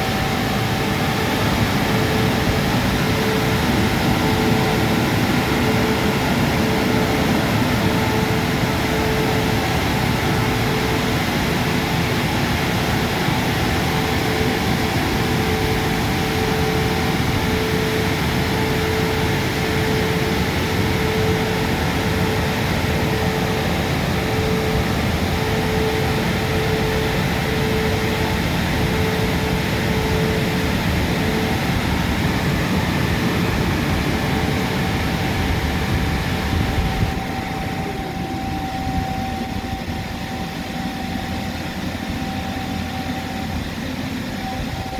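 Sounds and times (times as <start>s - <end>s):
pulsing hum: 0.0s - 44.9s.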